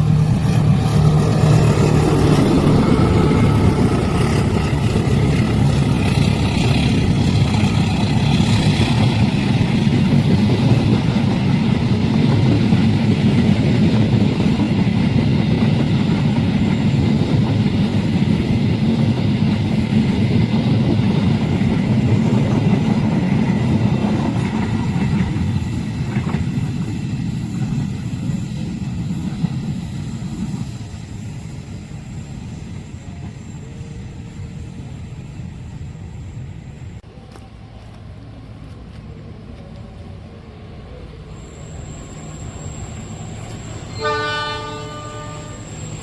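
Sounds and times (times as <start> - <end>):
train wheels rumbling on track: 0.0 - 46.0.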